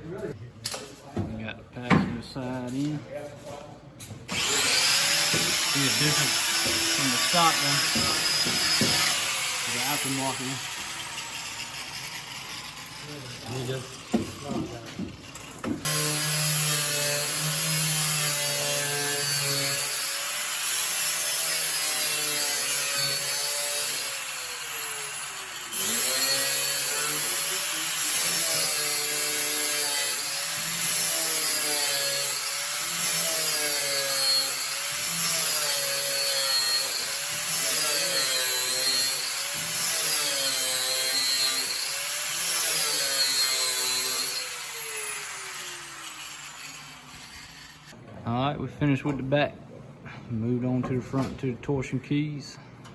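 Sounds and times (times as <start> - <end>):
rasping sawing strokes: 4.3 - 48.0.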